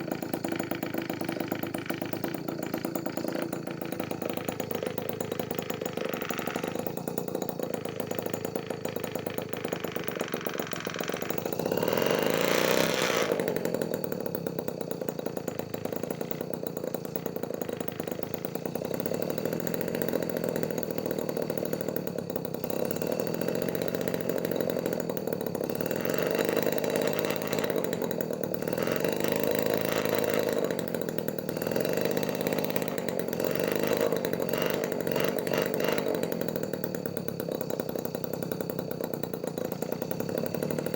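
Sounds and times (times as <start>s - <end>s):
small two-stroke engine buzzing: 0.0s - 40.9s.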